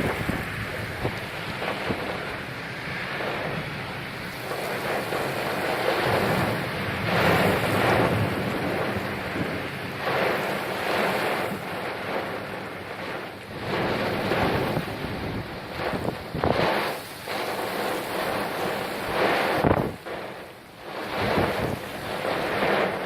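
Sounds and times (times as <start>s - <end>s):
wind gusting across microphone: 0.0s - 23.0s.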